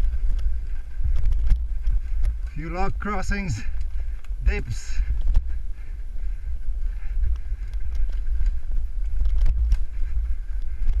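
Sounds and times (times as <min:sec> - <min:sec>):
bike tyres rumbling on dirt: 0:00.0 - 0:11.0
wind buffeting microphone: 0:00.0 - 0:11.0.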